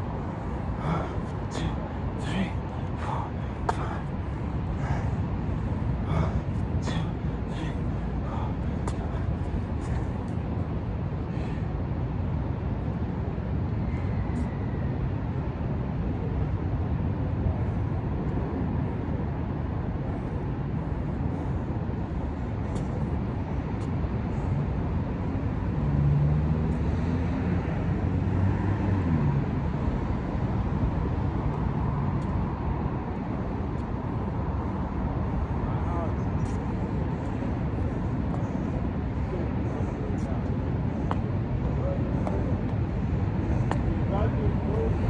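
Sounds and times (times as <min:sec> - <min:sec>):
traffic rumble: 0:00.0 - 0:45.0.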